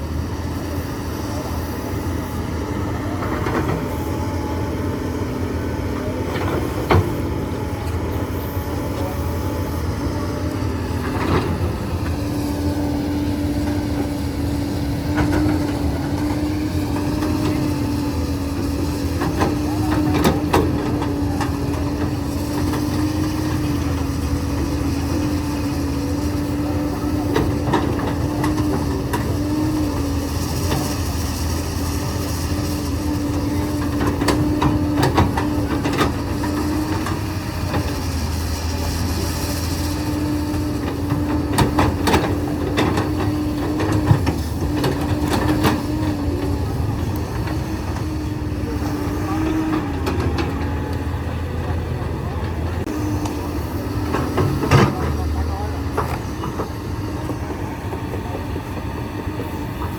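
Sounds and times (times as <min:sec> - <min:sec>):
excavator diesel engine humming: 0:00.0 - 0:59.9.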